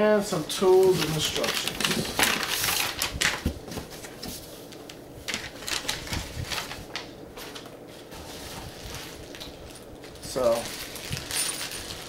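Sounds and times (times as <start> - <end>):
packaging rustling: 0.7 - 12.0.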